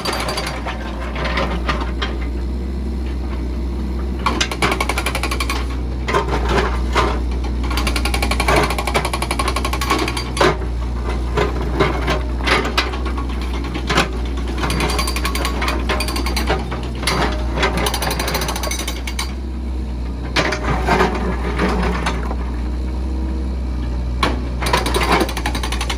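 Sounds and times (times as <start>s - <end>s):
backhoe engine hum: 0.0s - 25.9s.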